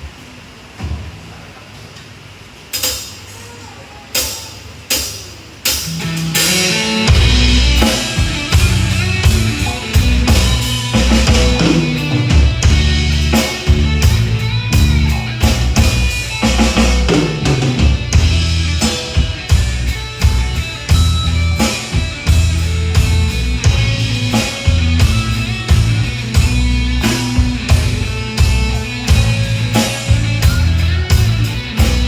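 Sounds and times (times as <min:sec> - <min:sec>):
drum hits: 0:04.2 - 0:32.0
live rock band playing: 0:04.9 - 0:32.0.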